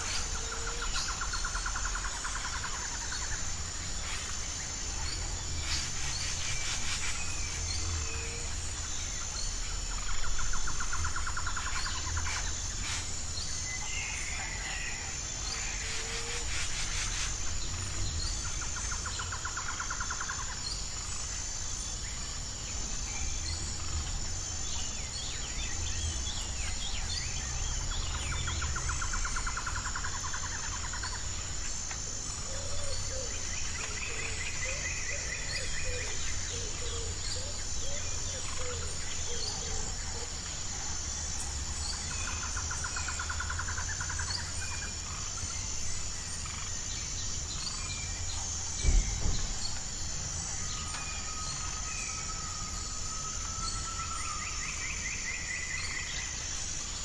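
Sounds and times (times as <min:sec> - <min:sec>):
birds chirping and trilling: 0:00.0 - 0:57.0
insects chirring: 0:00.0 - 0:57.0.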